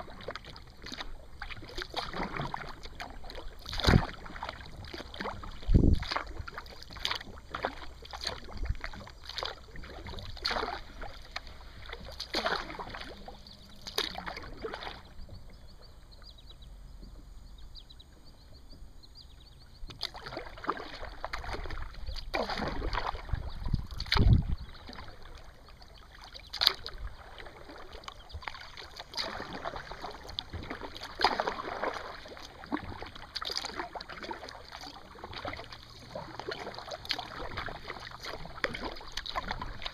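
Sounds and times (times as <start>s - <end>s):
kayak paddle splashing water: 0.0s - 39.9s.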